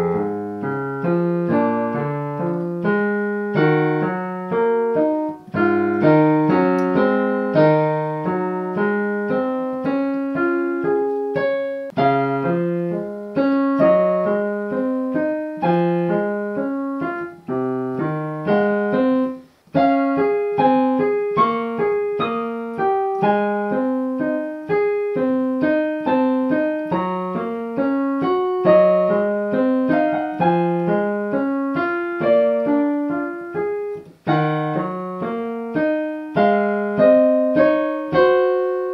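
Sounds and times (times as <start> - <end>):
piano playing: 0.0 - 38.9.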